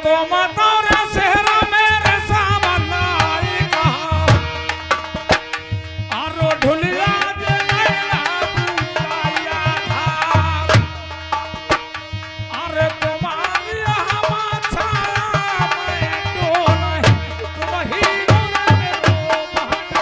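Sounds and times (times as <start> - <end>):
hand drum beating quick rhythm: 1.0 - 13.2, 14.2 - 20.0.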